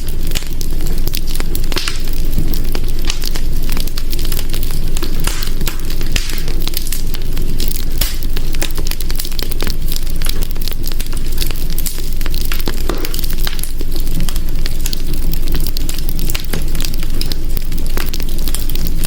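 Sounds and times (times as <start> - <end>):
burning wood popping and snapping: 0.0 - 19.0
low rumble of flames: 0.0 - 19.0.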